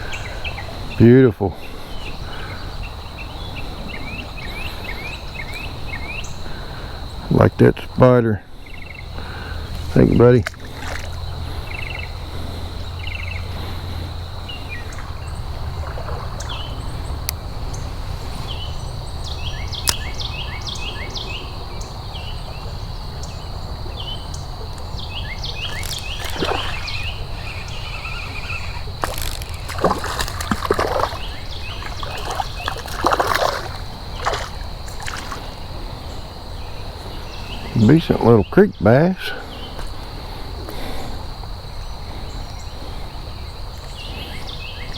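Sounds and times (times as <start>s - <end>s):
creek water splashing: 0.0s - 7.5s, 8.1s - 44.9s
high insect drone: 0.0s - 44.9s.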